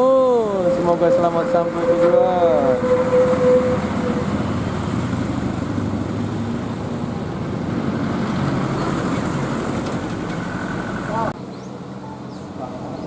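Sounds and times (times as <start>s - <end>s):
bus engine running: 0.0s - 13.0s
tyre and traffic noise: 0.0s - 13.0s.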